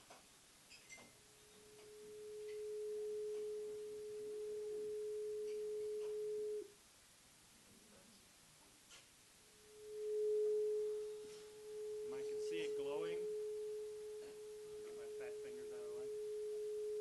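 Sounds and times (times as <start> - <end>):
steady pure tone: 0.7 - 6.8, 9.4 - 17.0.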